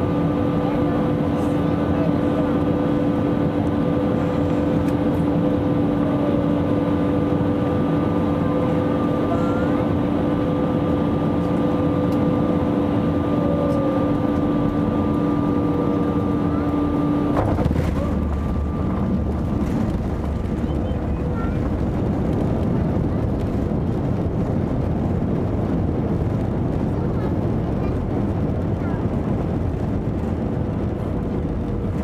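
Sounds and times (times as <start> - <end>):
cabin air rush: 0.0 - 32.0
tyres rumbling on runway: 0.0 - 32.0.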